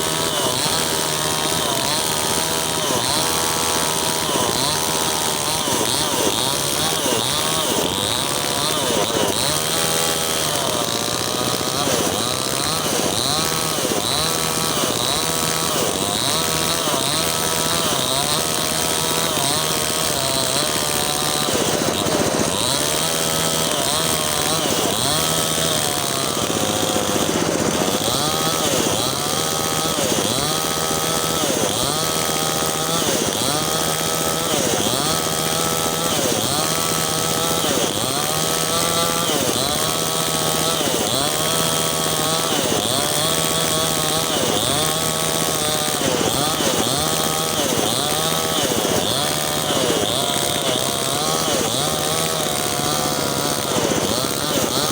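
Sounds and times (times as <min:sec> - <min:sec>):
mini chainsaw cutting wood: 0:00.0 - 0:54.9.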